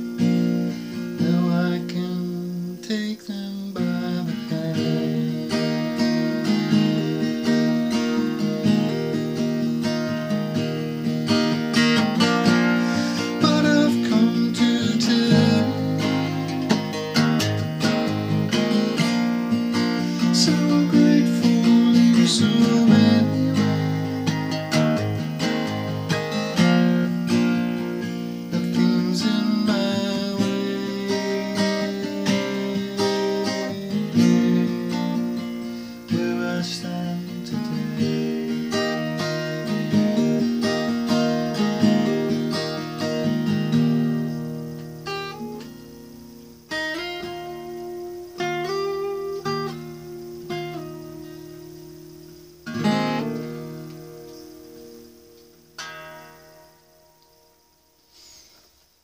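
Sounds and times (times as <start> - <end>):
acoustic guitar strummed and picked: 0.0 - 59.0.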